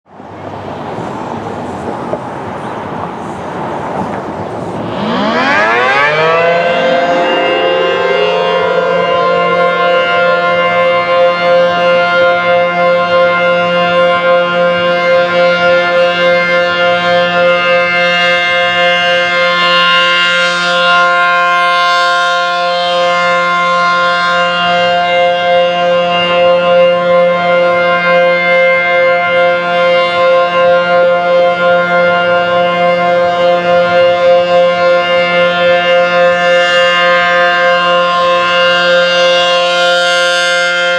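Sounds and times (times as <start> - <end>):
warning siren: 0.1 - 40.9.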